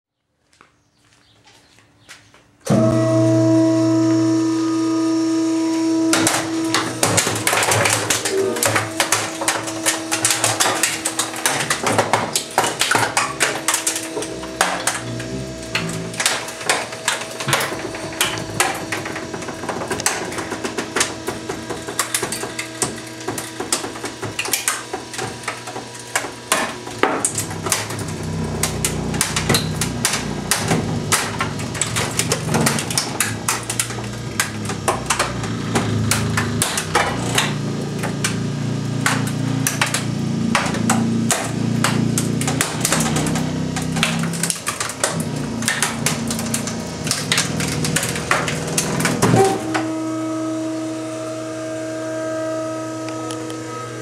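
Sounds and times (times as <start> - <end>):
low machine drone: 2.7 - 54.0
plastic and metal cracking: 6.1 - 50.0.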